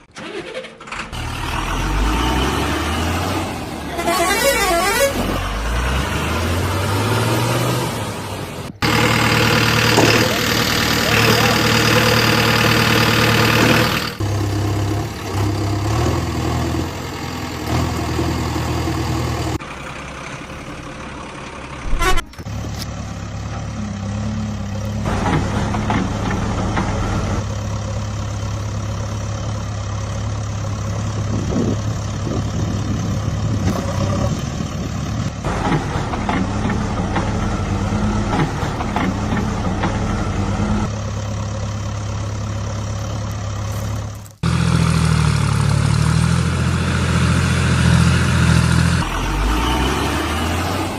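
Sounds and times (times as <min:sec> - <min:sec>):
heavy vehicle engine idling: 0:08.1 - 0:49.5.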